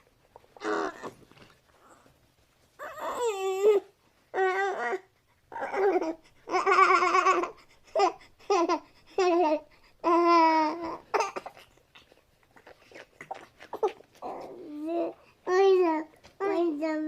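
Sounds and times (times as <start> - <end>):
baby-like cooing and babbling: 0.4 - 1.3, 2.8 - 11.7, 12.6 - 17.0.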